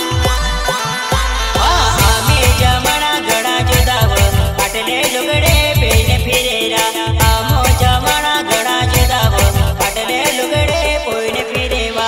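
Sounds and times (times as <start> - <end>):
fast drum beat: 0.0 - 12.0
folk dance music: 0.0 - 12.0.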